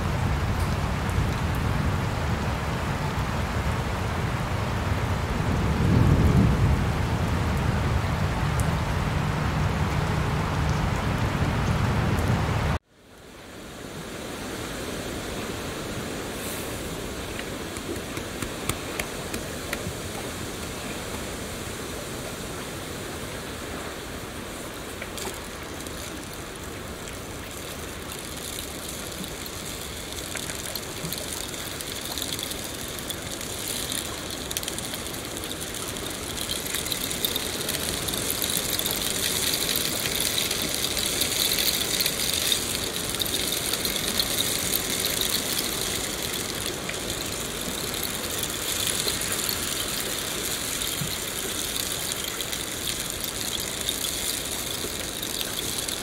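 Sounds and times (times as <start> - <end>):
rain falling on open water: 0.0 - 56.0
steady rain: 0.0 - 56.0.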